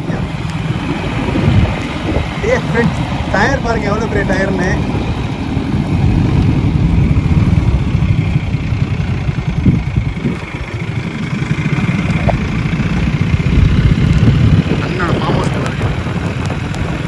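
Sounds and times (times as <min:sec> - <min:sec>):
road rush: 0:00.0 - 0:17.0
vehicle engines rumbling: 0:00.0 - 0:17.0.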